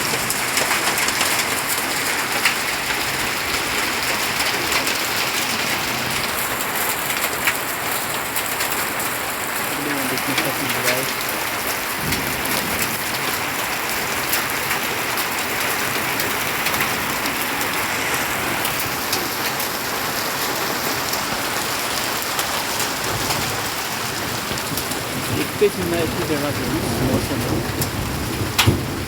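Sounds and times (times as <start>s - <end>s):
hailstones ticking: 0.0s - 29.0s
heavy rain hiss: 0.0s - 29.0s.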